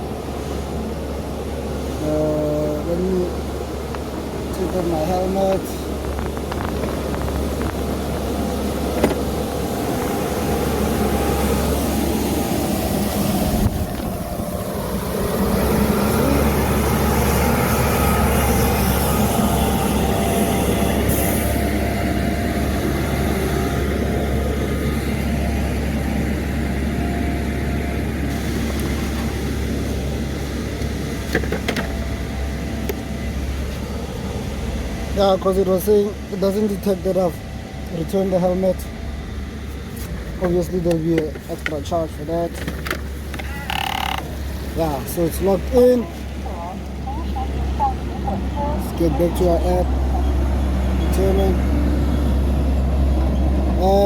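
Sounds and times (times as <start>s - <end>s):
city street traffic: 0.0s - 54.0s.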